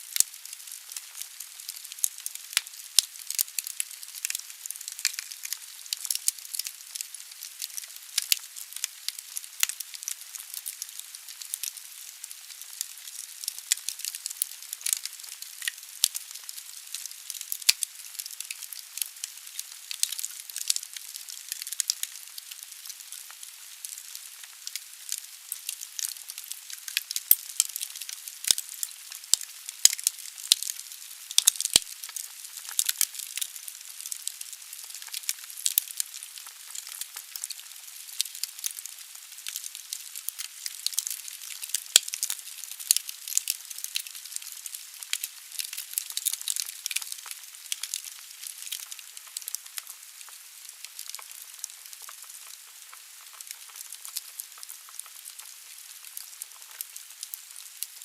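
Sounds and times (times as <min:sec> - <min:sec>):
steady fire hiss: 0:00.0 - 0:58.0
wood fire crackling and popping: 0:00.1 - 0:58.0.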